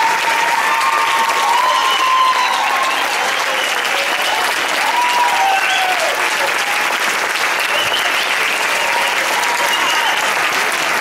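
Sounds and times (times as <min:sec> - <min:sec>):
whoops and cheers: 0:00.0 - 0:07.0, 0:07.6 - 0:10.7
audience applauding: 0:00.0 - 0:11.0.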